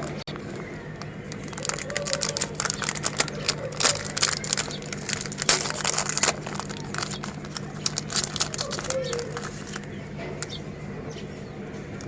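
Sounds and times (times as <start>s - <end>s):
grinder crunching biscuits: 0.0s - 10.7s.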